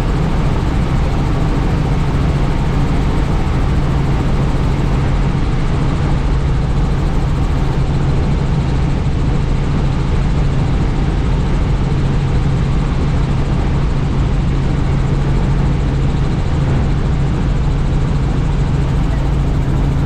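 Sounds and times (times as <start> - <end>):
helicopter engine and rotor noise: 0.0 - 20.0
rush of wind: 0.0 - 20.0.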